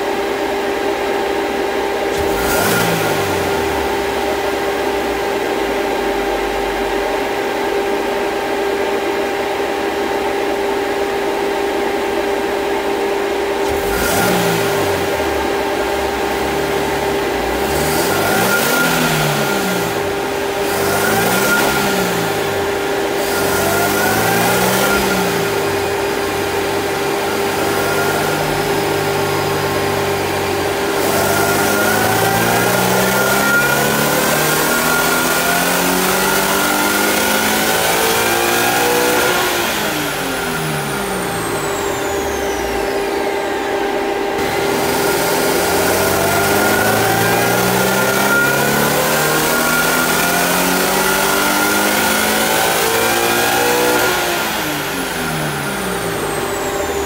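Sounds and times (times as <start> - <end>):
car engine idling and revving: 0.0 - 57.0
supercharger whine: 0.0 - 57.0.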